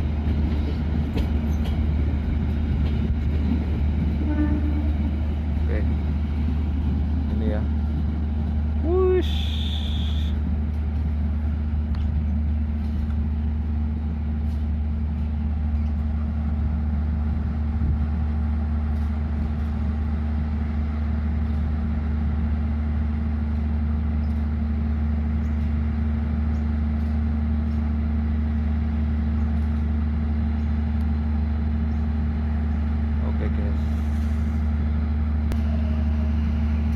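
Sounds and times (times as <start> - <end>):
diesel locomotive idling: 0.0 - 36.9.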